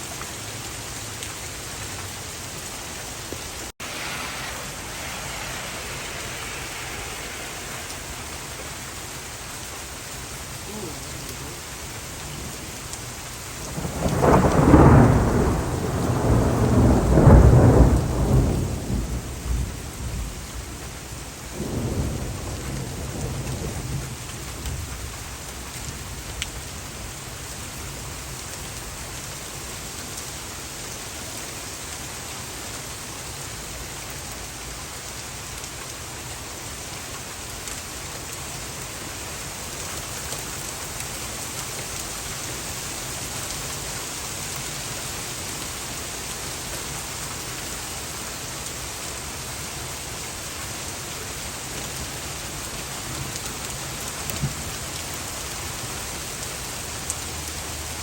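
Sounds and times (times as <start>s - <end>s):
heavy rain and hail: 0.0s - 58.0s.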